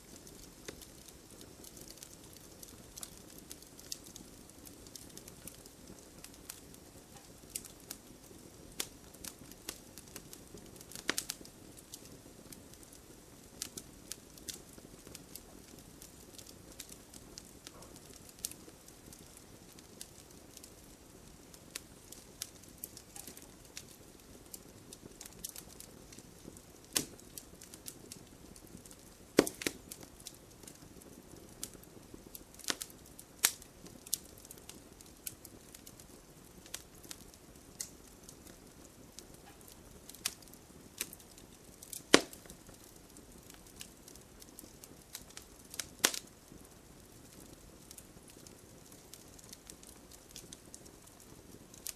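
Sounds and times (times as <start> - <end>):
fire crackling with pops: 0.0 - 51.9.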